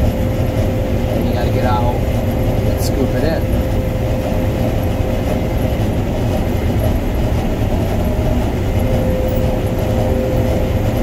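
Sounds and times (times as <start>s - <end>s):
combine harvester engine rumble: 0.0s - 11.0s
mechanical whine: 0.0s - 11.0s.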